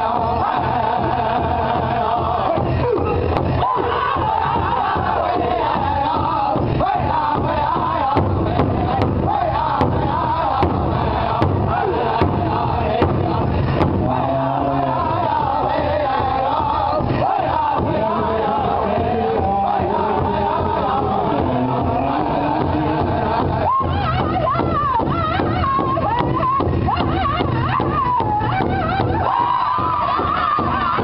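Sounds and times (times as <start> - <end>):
group singing a wavering chant: 0.0 - 31.0
large drum beaten with drumsticks: 0.1 - 31.0
loud drum strikes: 0.2 - 31.0.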